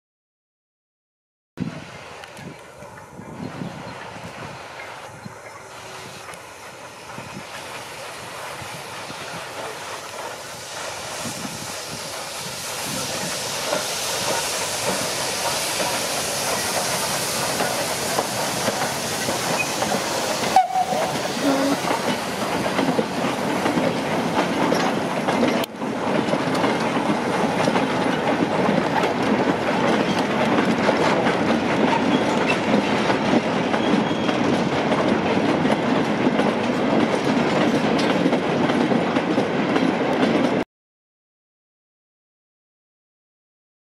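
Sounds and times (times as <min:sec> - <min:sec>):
steam locomotive hissing: 0:01.7 - 0:40.3
goods wagons clattering over rail joints: 0:02.4 - 0:12.3, 0:12.9 - 0:40.6.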